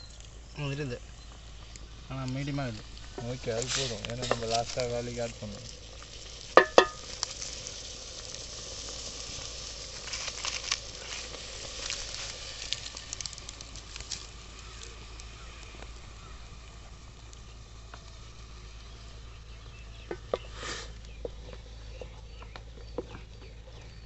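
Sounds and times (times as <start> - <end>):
cooking fire hissing and crackling: 0.0 - 24.0
stock boiling in pot: 0.0 - 24.0.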